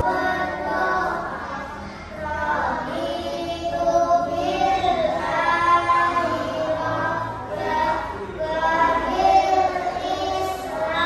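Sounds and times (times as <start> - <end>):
children singing in unison: 0.0 - 11.0.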